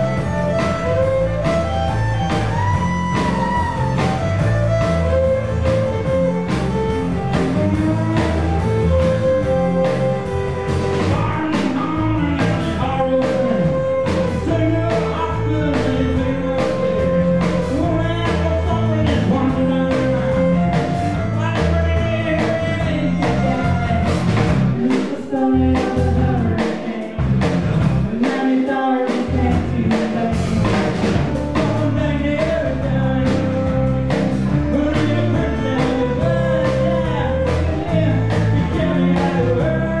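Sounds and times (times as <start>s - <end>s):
violin: 0.0s - 24.9s, 31.0s - 40.0s
bass: 0.0s - 40.0s
drum kit with steady beat: 0.0s - 40.0s
man singing lead: 0.0s - 40.0s.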